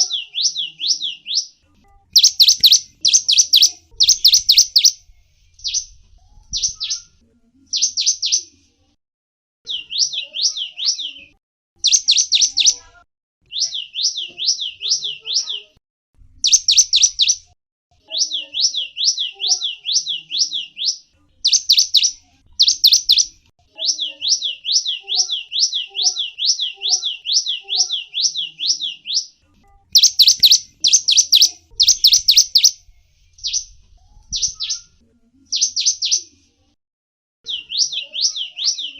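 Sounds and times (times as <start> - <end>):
songbird chirping and whistling: 0.0 - 8.5, 9.7 - 15.7, 16.4 - 36.3, 37.5 - 38.9.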